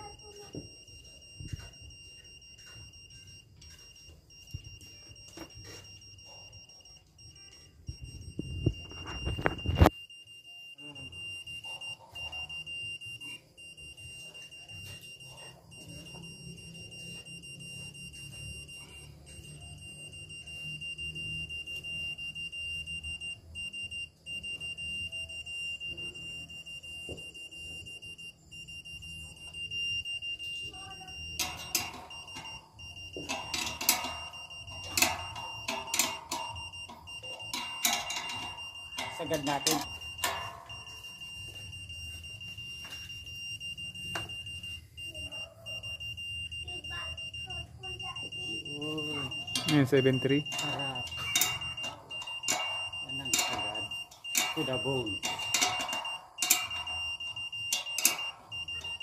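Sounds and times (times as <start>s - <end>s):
signal meter beep tone: 0.0s - 59.0s.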